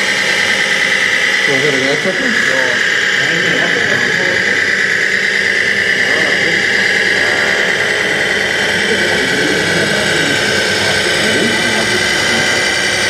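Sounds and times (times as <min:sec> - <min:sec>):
toy truck motor whirring: 0:00.0 - 0:13.0.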